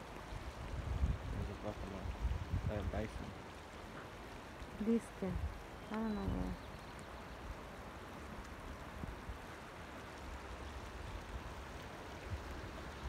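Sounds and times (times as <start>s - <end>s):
shallow river water rushing: 0.0s - 13.0s
wind buffeting microphone: 0.0s - 13.0s.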